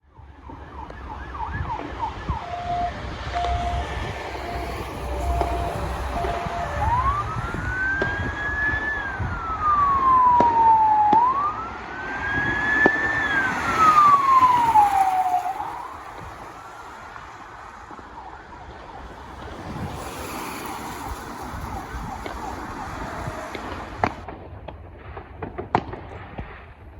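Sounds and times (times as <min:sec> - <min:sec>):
emergency vehicle siren: 0:00.0 - 0:24.4
vehicle low rumble: 0:00.0 - 0:26.9.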